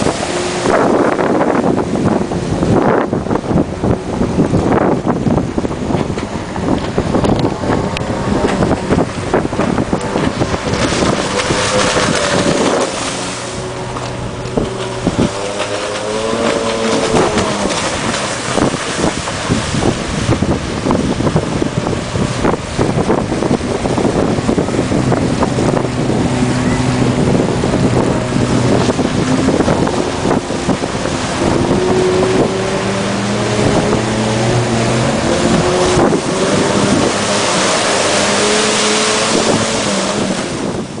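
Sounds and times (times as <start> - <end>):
jet ski engine running: 0.0 - 41.0
wind buffeting microphone: 0.0 - 41.0.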